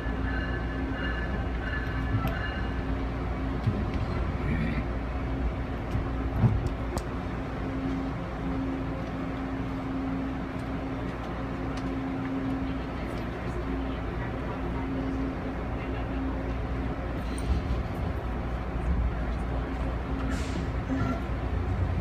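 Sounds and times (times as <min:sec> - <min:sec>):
train coach rumble: 0:00.0 - 0:22.0.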